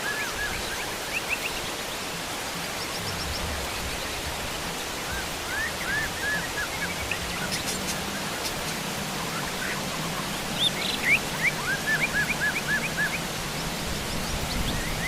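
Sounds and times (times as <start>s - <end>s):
birds chirping: 0.0s - 15.0s
heavy rain: 0.0s - 15.0s.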